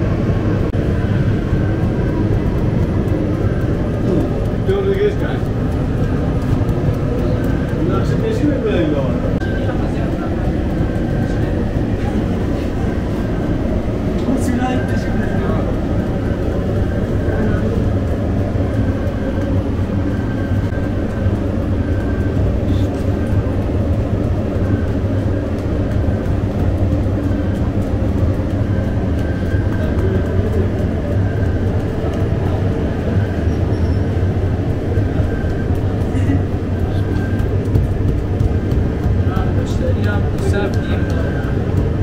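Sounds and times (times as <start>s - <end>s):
gas oven rumbling: 0.0s - 42.0s.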